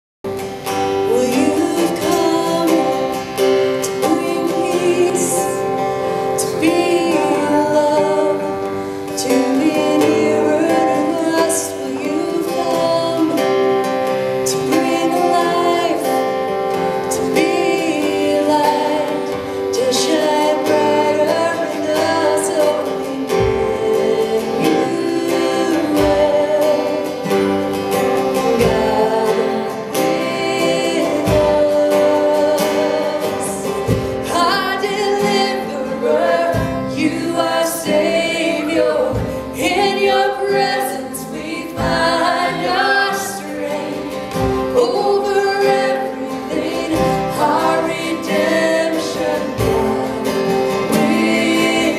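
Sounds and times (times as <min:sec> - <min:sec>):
acoustic guitars strumming: 0:00.3 - 0:51.9
woman singing: 0:00.6 - 0:51.9.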